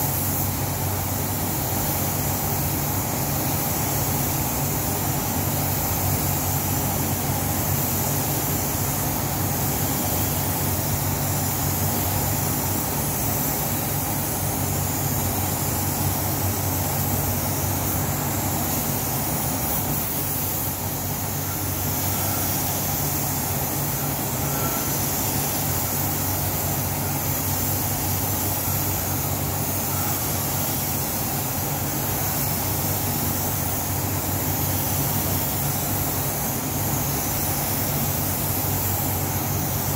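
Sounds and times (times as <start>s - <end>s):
paint spray gun hissing: 0.0s - 39.9s
ventilation fans humming: 0.0s - 39.9s.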